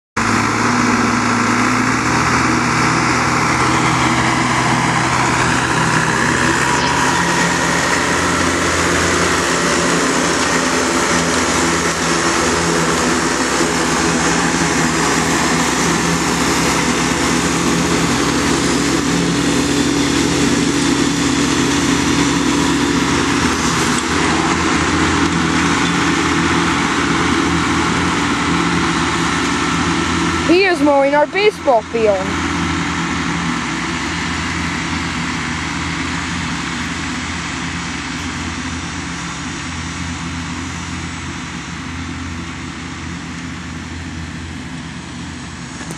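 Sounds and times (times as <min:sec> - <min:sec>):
riding mower engine running: 0:00.2 - 0:45.9.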